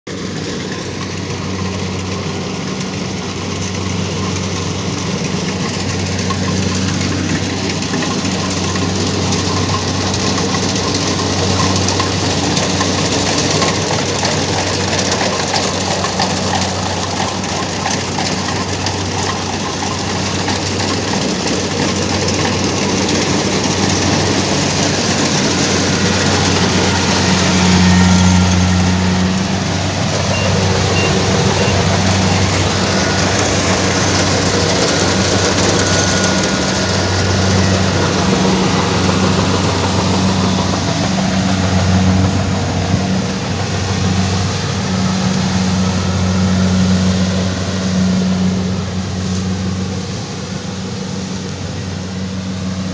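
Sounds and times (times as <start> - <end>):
combine harvester engine drone: 0.1 - 52.9
machinery clatter: 0.1 - 52.9.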